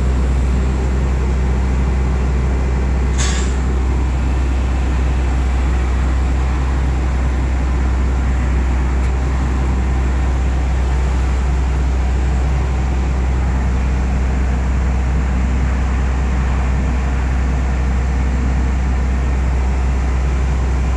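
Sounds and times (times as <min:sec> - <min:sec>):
heavy engine droning: 0:00.0 - 0:20.9.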